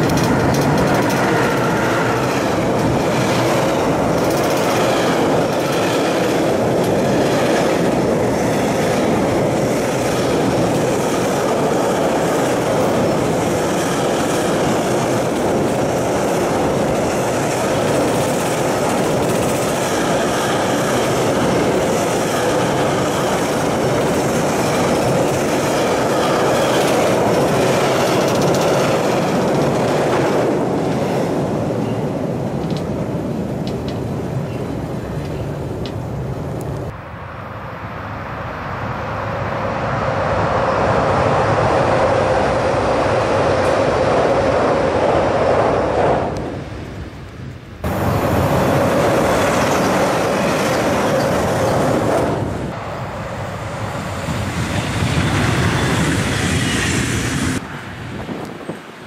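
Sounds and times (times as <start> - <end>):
freight train rumbling on bridge: 0.0 - 59.0.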